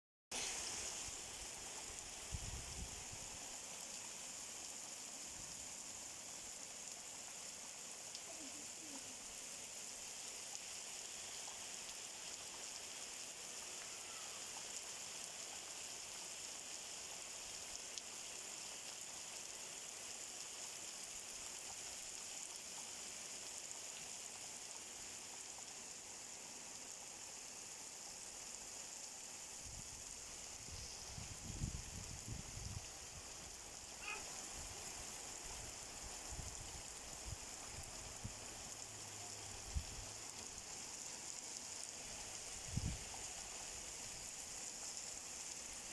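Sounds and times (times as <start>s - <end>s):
steady rain hiss: 0.3s - 45.9s.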